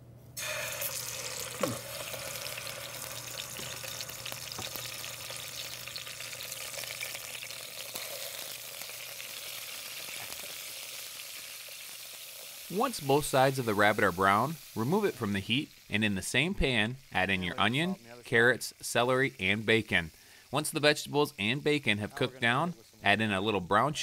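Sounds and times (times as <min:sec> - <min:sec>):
meat sizzling in a pan: 0:00.4 - 0:24.0.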